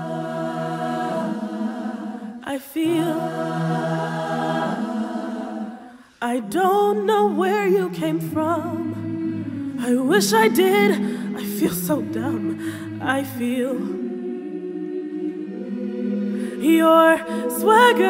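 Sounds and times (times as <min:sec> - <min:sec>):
choir singing a cappella: 0:00.0 - 0:18.0
person singing with vibrato: 0:00.0 - 0:18.0.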